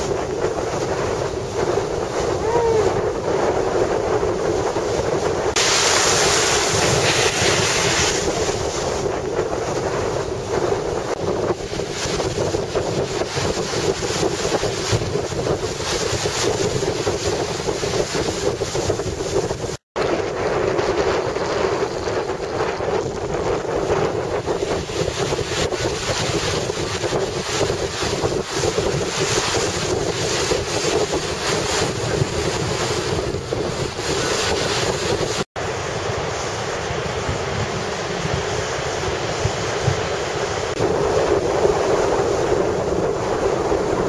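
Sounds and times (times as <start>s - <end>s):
rushing surf: 0.0s - 44.0s
wind buffeting microphone: 0.0s - 44.0s.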